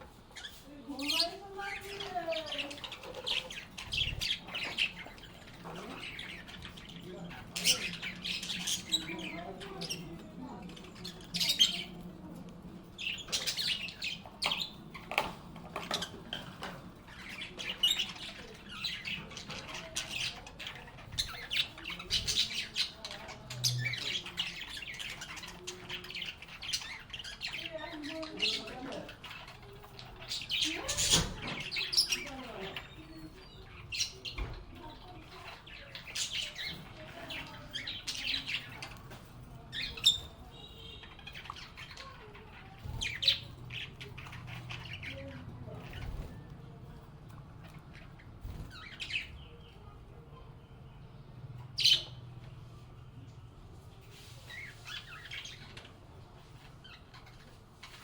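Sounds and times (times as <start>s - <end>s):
soft bird chattering: 0.0s - 52.5s, 54.0s - 58.0s
lovebirds chirping and squawking: 0.0s - 58.0s.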